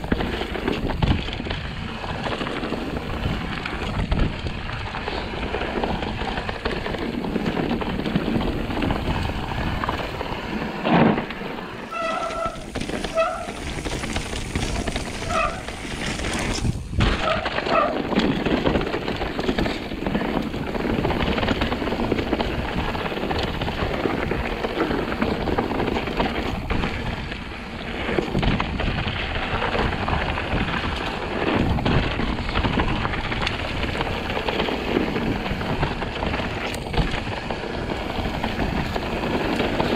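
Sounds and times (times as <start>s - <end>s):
bike rattling over bumps: 0.0s - 39.9s
bike tyres rumbling over dirt: 0.0s - 39.9s.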